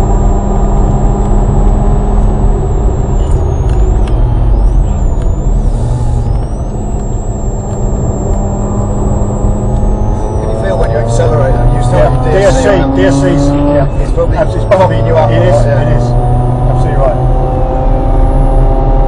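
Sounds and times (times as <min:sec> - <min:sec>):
road and wind noise: 0:00.0 - 0:19.0
rotary engine running hard: 0:00.0 - 0:19.0.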